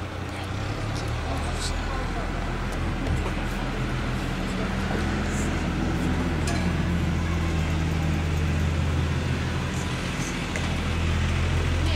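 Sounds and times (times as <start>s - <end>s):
two-stroke engine idling: 0.0s - 11.9s.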